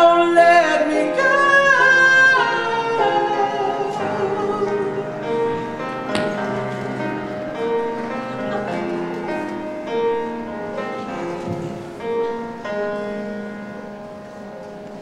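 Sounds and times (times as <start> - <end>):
grand piano playing slowly: 0.0 - 15.0.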